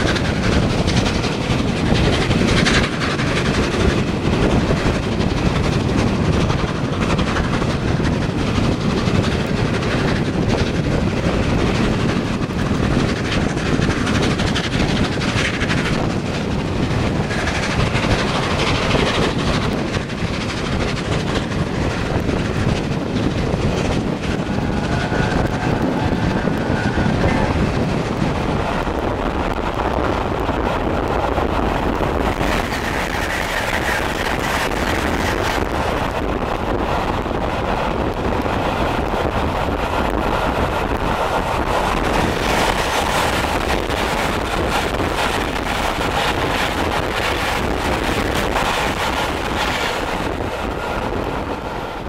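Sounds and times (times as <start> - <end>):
passing express train: 0.0 - 52.0
rush of train wheels on rail: 0.0 - 52.0
wind buffeting microphone: 0.0 - 52.0.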